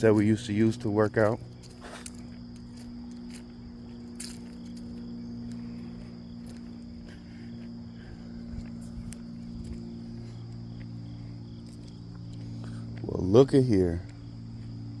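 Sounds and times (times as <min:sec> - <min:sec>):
insects trilling: 0:00.0 - 0:15.0
low steady hum: 0:00.0 - 0:15.0.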